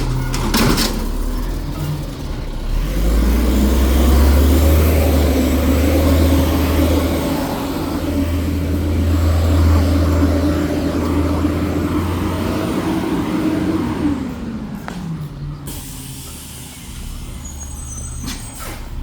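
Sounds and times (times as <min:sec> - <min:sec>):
garbage truck engine revving: 0:00.0 - 0:19.0.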